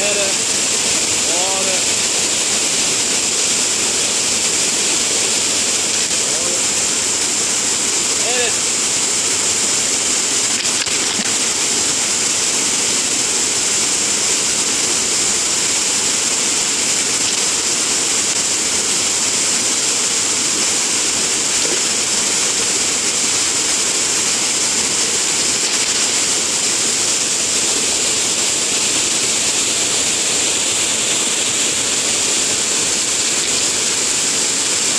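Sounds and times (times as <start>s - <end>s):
waterfall pouring into pool: 0.0s - 34.9s.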